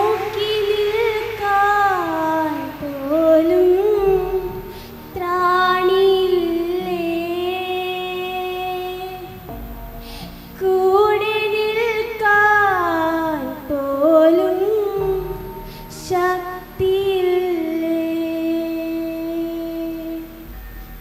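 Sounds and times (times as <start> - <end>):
woman singing slow melody: 0.0 - 9.5, 10.6 - 20.6.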